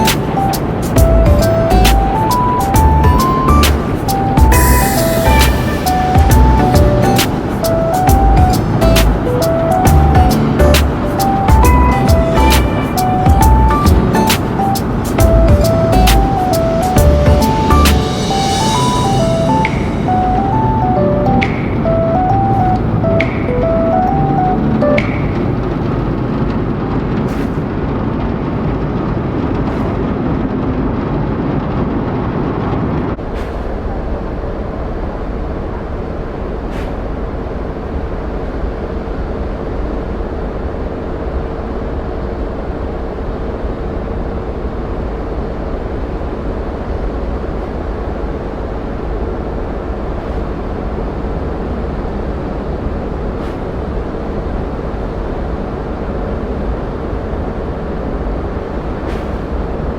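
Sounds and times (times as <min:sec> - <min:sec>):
ship engine rumble: 0:00.0 - 0:59.9
steady hum: 0:00.0 - 0:59.9.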